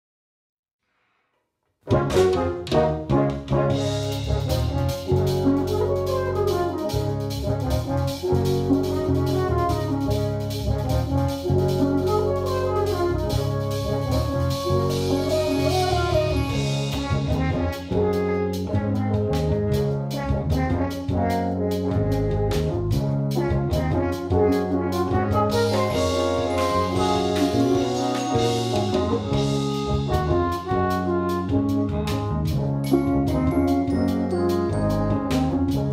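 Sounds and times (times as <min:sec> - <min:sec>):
drum kit and cymbals: 0:01.9 - 0:35.9
electric bass: 0:01.9 - 0:35.9
french horns playing chords: 0:01.9 - 0:35.9
percussion: 0:01.9 - 0:35.9.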